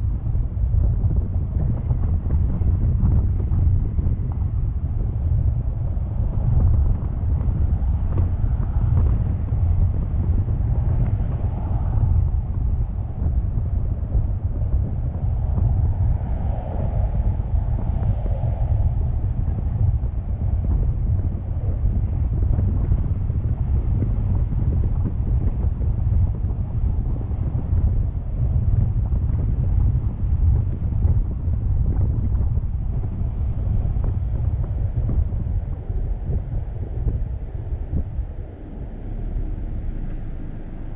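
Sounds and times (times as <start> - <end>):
road noise: 0.0 - 40.9
wind buffeting microphone: 0.0 - 40.9.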